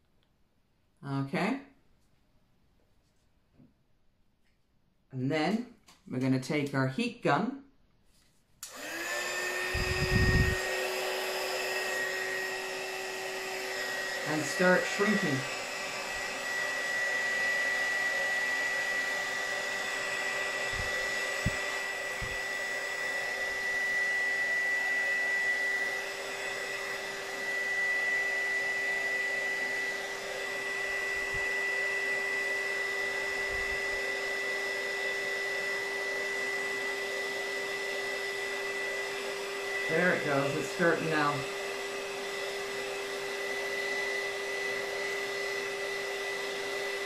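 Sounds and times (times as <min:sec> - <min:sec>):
heat gun blower whining: 0:08.6 - 0:47.0.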